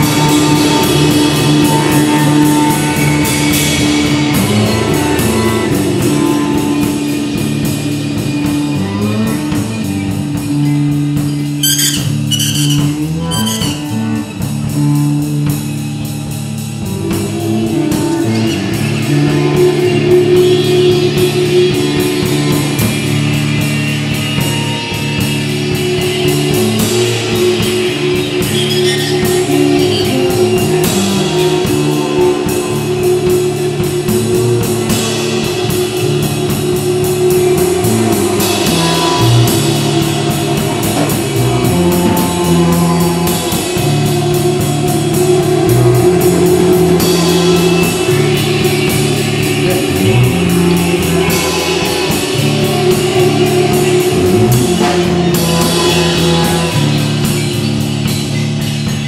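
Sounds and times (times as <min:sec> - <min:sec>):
bass guitar: 0:00.0 - 0:59.0
drum kit steady beat: 0:00.0 - 0:59.0
guitar droning note: 0:00.0 - 0:59.0.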